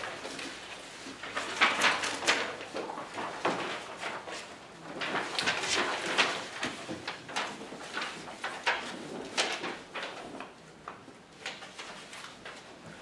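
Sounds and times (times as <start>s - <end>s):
paper pages turning and rustling: 0.0s - 13.0s.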